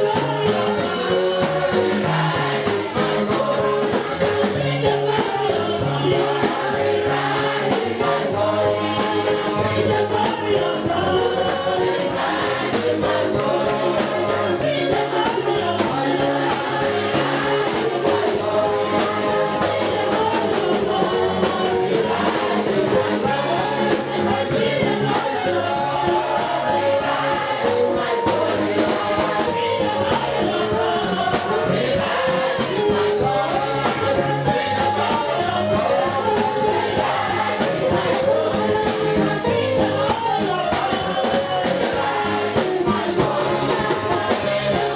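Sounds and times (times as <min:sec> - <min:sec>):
band with bass and percussion: 0:00.0 - 0:44.9
congregation and choir singing: 0:00.0 - 0:44.9.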